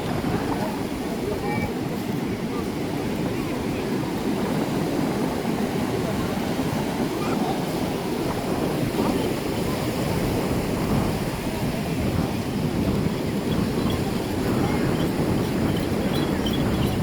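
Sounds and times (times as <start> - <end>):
murmur of distant voices: 0.0 - 17.0
ocean surf washing on shore: 0.0 - 17.0
wind noise on microphone: 0.0 - 17.0.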